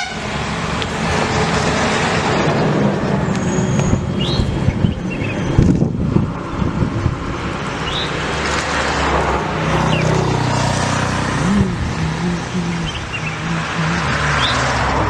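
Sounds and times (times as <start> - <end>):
road noise: 0.0 - 15.0
vehicle engine humming: 0.0 - 15.0.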